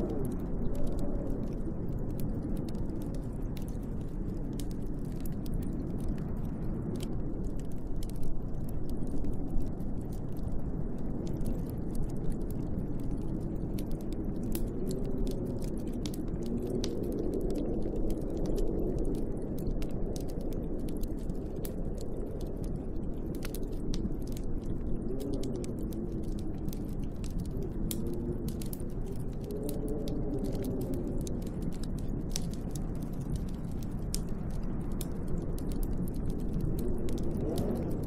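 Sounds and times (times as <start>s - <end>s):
howling snowstorm wind: 0.0s - 38.0s
light crackling ticks: 0.0s - 38.0s.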